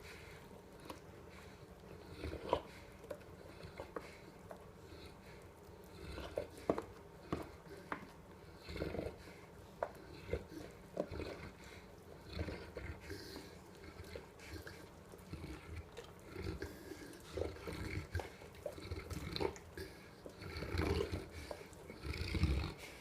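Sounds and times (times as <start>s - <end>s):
dog chewing and smacking: 0.0s - 23.0s.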